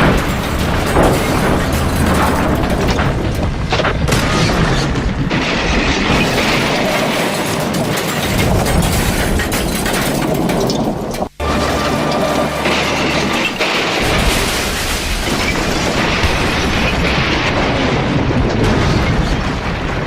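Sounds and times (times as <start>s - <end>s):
sharp impacts: 0.0s - 20.0s
train crash booming and rumbling: 0.0s - 20.0s.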